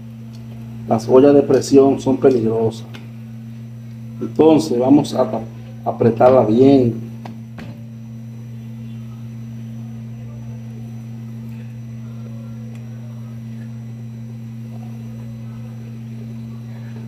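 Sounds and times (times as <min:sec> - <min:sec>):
low two-tone hum: 0:00.0 - 0:17.0.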